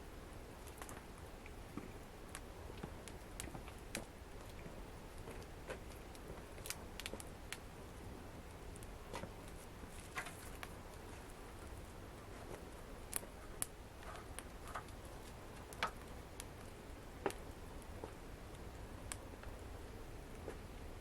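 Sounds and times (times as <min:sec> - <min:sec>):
low steady fire rumble: 0:00.0 - 0:21.0
wood fire crackling and popping: 0:00.0 - 0:21.0.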